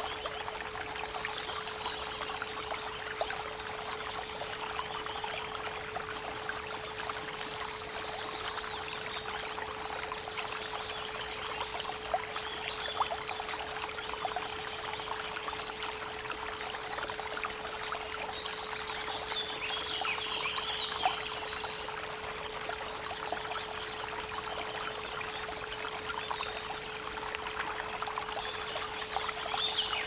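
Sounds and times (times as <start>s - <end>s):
creek water trickling: 0.0s - 30.0s.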